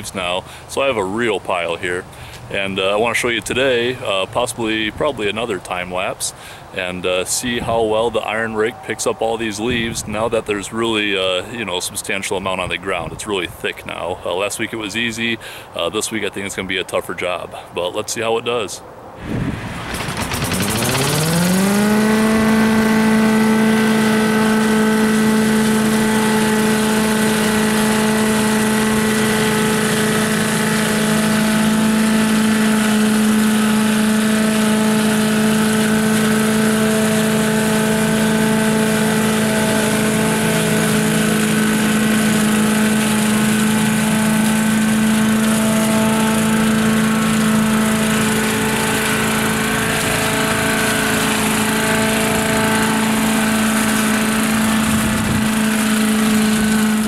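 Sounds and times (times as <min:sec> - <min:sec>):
leaf vacuum engine running: 0:00.0 - 0:11.6, 0:19.2 - 0:57.0.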